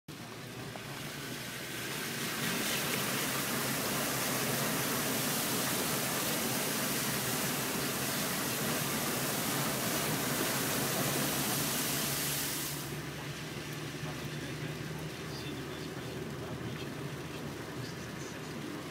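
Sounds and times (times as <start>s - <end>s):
car tyres hissing on wet road: 0.1s - 18.9s
low engine hum: 0.1s - 18.9s.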